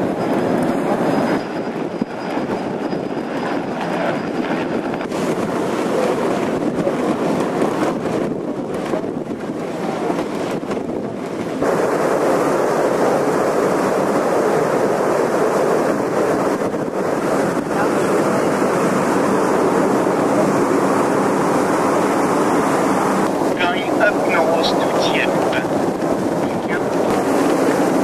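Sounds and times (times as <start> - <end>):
wind and sea rushing: 0.0 - 28.0
wind buffeting microphone: 0.0 - 28.0.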